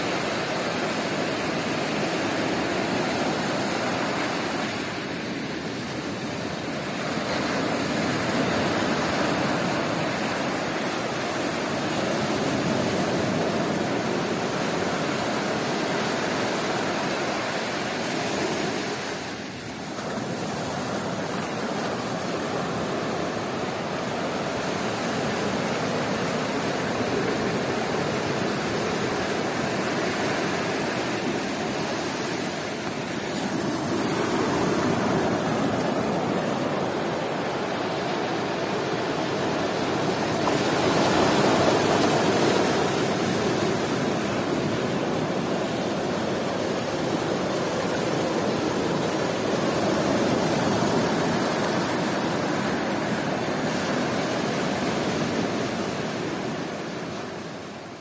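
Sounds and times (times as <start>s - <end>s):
sea surf washing onto beach: 0.0s - 58.0s.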